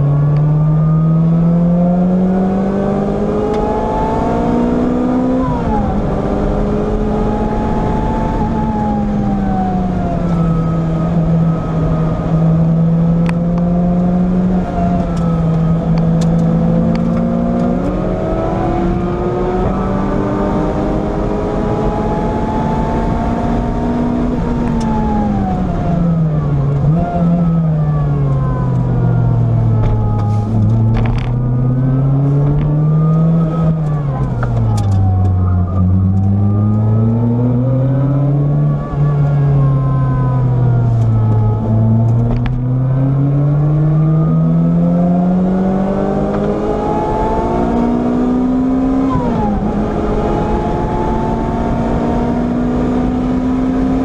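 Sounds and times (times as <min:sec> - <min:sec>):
car engine accelerating: 0:00.0 - 0:54.0
wind and tyre noise: 0:00.0 - 0:54.0.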